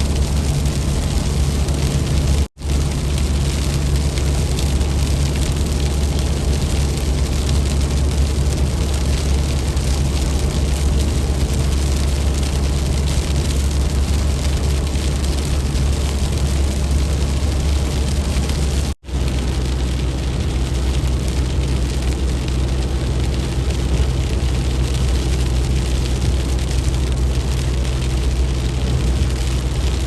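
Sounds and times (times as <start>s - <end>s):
car road and wind noise: 0.0s - 30.0s.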